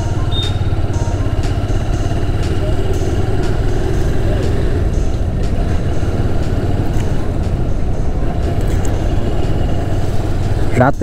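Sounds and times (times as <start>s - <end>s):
motorcycle engine riding: 0.0s - 11.0s
road rumble: 0.0s - 11.0s.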